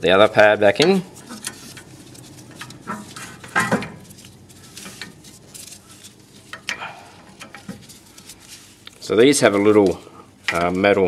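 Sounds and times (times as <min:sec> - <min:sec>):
metal clinks and scrapes: 0:01.2 - 0:10.9.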